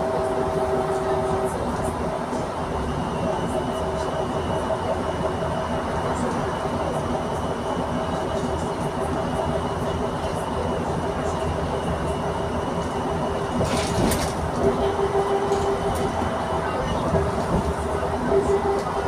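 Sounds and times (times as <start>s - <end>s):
bus drivetrain hum: 0.0s - 19.0s.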